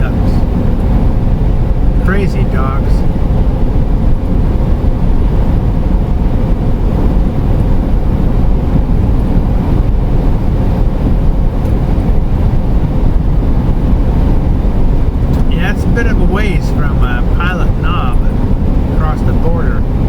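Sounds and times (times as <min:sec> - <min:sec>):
road and engine rumble inside van: 0:00.0 - 0:20.0.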